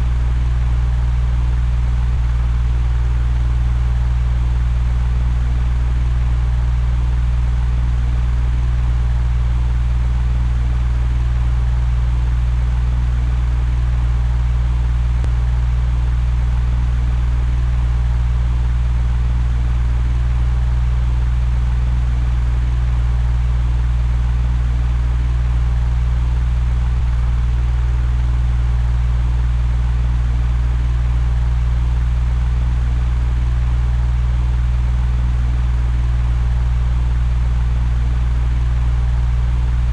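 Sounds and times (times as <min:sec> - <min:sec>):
electric fan motor hum: 0:00.0 - 0:39.9.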